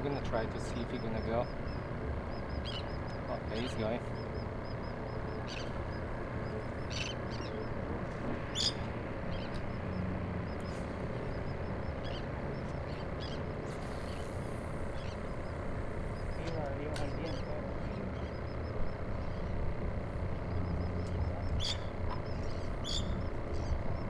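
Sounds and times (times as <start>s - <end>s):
wind: 0.0s - 24.0s.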